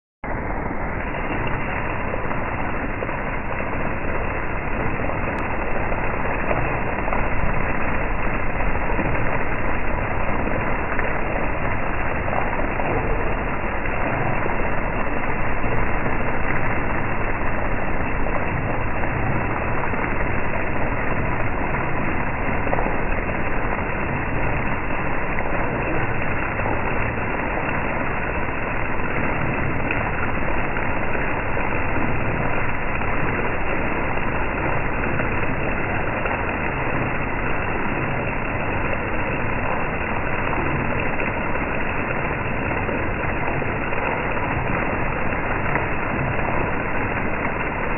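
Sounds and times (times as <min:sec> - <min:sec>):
heavy rain on street and awning: 0:00.2 - 0:47.9
water dripping off awning: 0:00.3 - 0:47.9.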